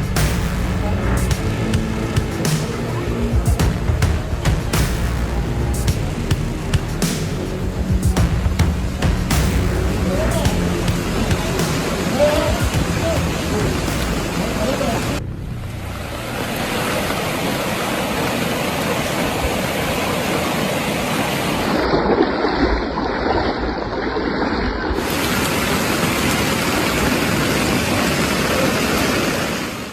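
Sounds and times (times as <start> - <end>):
flood water rushing: 0.0 - 29.9.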